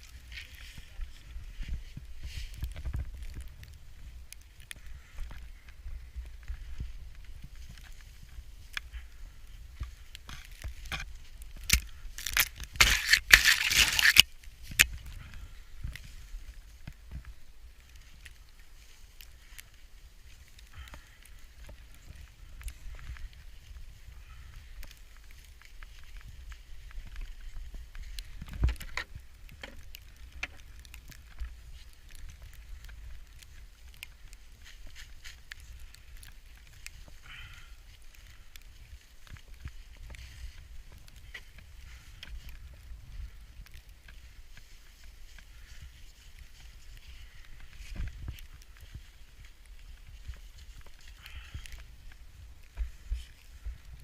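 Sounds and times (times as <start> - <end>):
wind rumble on microphone: 0.0 - 13.3, 14.2 - 54.0
snow crunching and rustling: 0.0 - 54.0.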